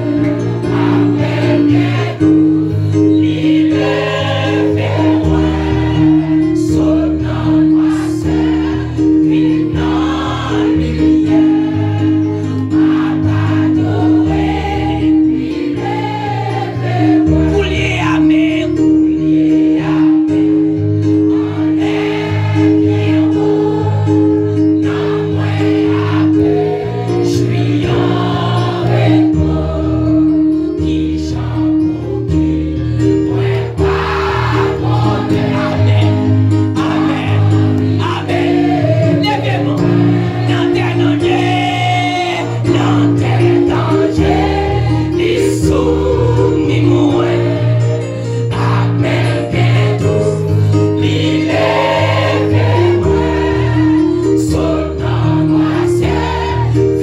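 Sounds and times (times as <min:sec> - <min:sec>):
held chords and bass line: 0:00.0 - 0:57.0
voices singing along: 0:00.0 - 0:57.0.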